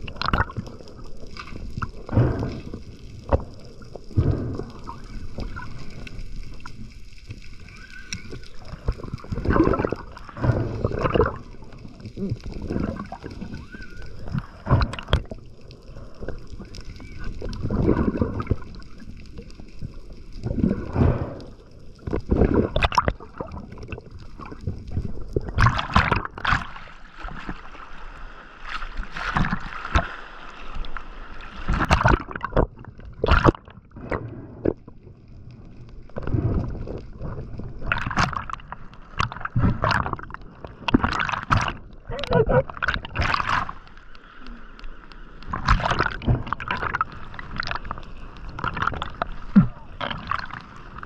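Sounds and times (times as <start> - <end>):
sea water sloshing and splashing: 0.0 - 51.0.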